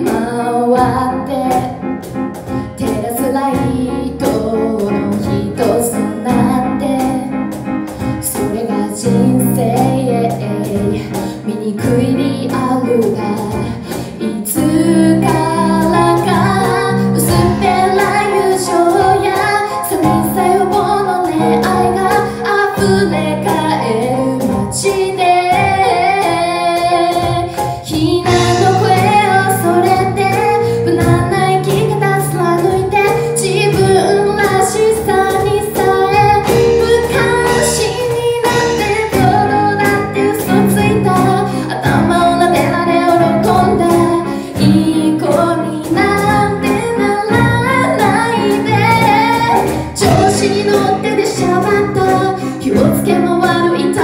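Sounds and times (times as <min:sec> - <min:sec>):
cajon beat: 0:00.0 - 0:54.0
keyboard chords: 0:00.0 - 0:54.0
woman singing into microphone: 0:00.0 - 0:54.0.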